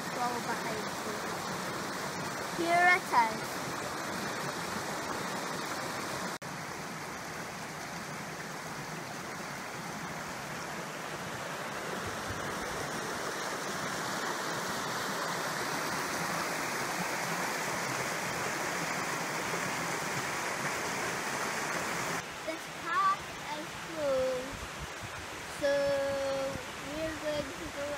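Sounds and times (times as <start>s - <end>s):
stream rushing over stones: 0.0s - 27.9s.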